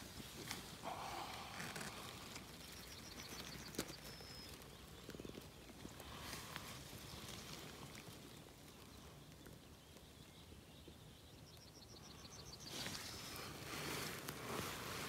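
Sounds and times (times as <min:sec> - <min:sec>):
meadow ambience: 0:00.0 - 0:15.0.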